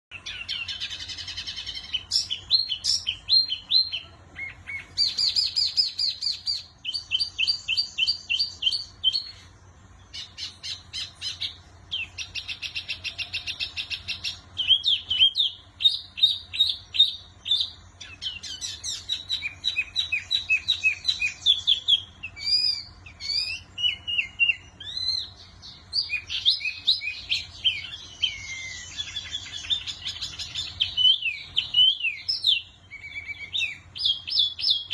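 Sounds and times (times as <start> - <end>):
songbird chirping and trilling: 0.0 - 34.9.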